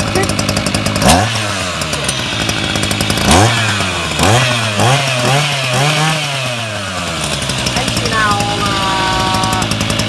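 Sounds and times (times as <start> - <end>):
brush-cutter engine revving: 0.0 - 10.0.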